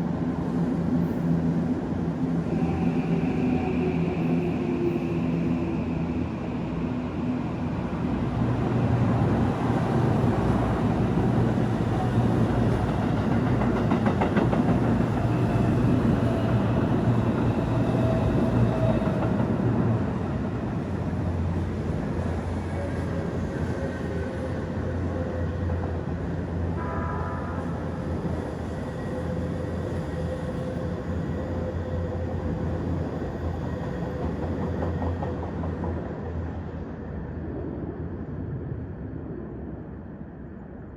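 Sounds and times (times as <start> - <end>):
electric train rumbling past: 0.0 - 40.9
faint train whine: 0.0 - 40.9.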